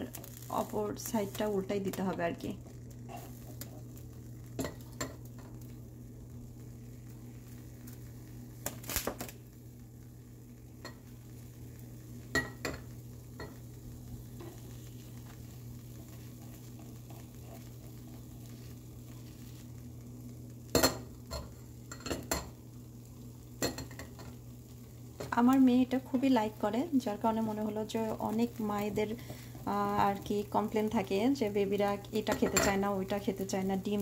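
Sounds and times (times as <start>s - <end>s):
egg sizzling in a pan: 0.0s - 34.0s.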